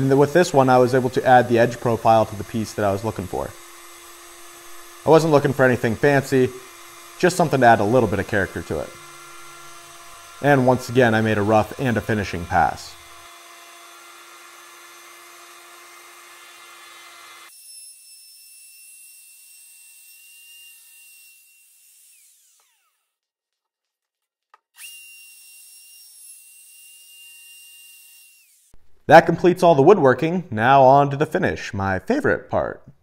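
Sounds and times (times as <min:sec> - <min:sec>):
wood router motor hum: 0:00.0 - 0:23.2, 0:24.8 - 0:28.8.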